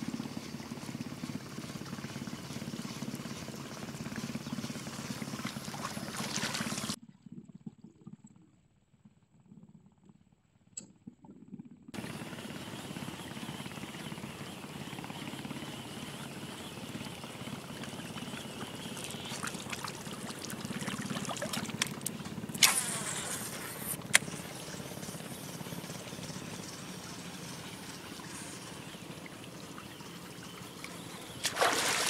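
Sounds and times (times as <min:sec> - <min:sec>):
small engine running: 0:00.0 - 0:07.0, 0:11.9 - 0:32.0.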